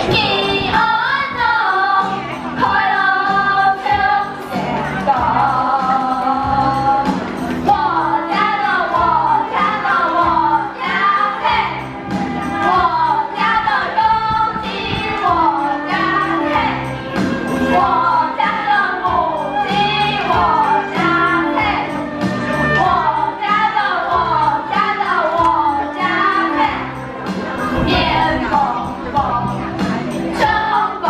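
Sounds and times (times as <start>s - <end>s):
group singing children's song: 0.0s - 31.0s
instrumental backing with beat: 0.0s - 31.0s.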